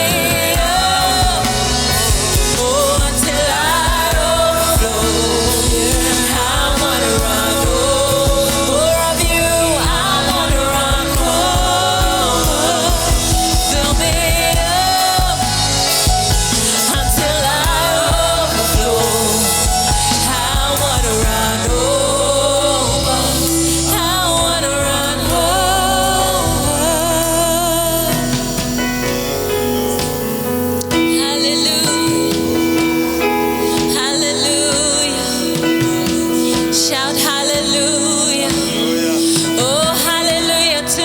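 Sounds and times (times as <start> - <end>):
band with drums and bass: 0.0 - 41.0
people singing worship song: 0.0 - 41.0.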